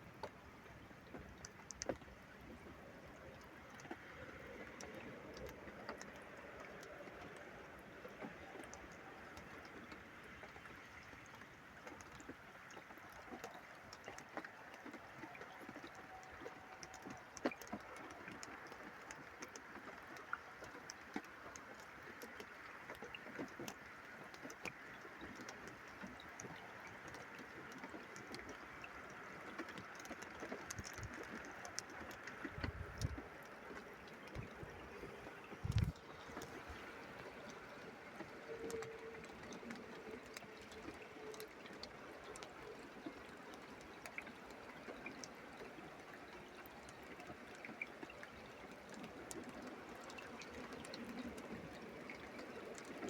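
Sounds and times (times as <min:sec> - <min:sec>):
rainwater dripping and trickling: 0:00.0 - 0:53.0.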